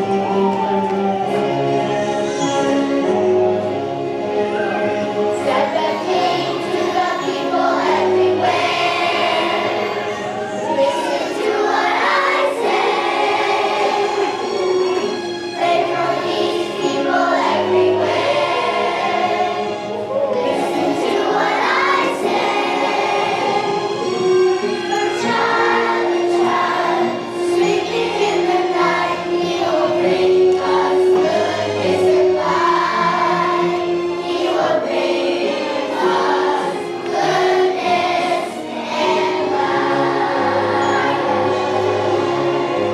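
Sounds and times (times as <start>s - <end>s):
children's choir singing: 0.0s - 42.9s
instrumental accompaniment: 0.0s - 42.9s.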